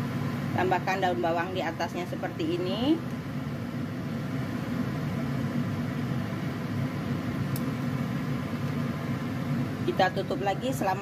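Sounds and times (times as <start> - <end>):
steamer wok low rumble: 0.0 - 11.0.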